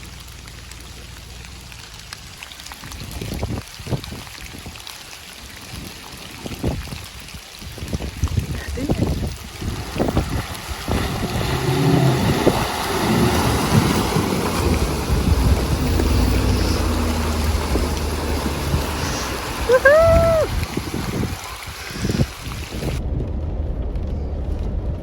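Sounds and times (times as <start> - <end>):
engine rumbling: 0.0 - 3.6, 8.6 - 25.0
tyres splashing through water: 0.0 - 23.0.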